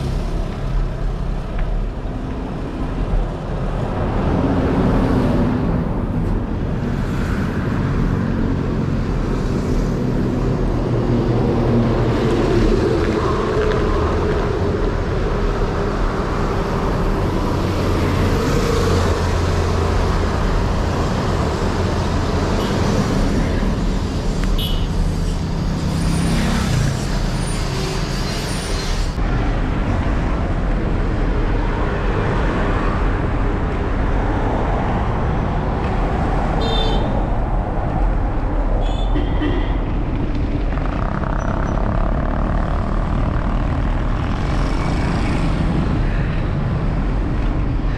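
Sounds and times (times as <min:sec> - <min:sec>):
road traffic noise: 0:00.0 - 0:47.9
vehicles passing: 0:00.0 - 0:47.9.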